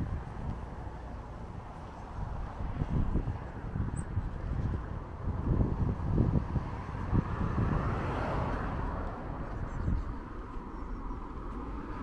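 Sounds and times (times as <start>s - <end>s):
road traffic hiss: 0.0s - 12.0s
wind buffeting microphone: 0.0s - 12.0s.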